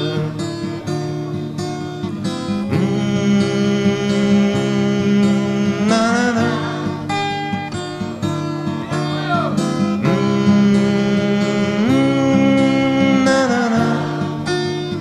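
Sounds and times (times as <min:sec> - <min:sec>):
slow acoustic guitar song: 0:00.0 - 0:15.0.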